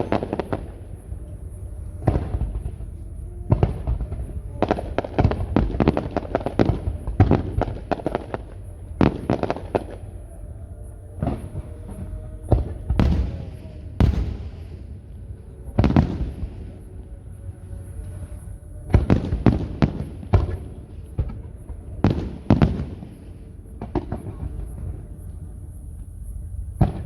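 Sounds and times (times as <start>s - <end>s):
fireworks exploding: 0.0s - 27.0s.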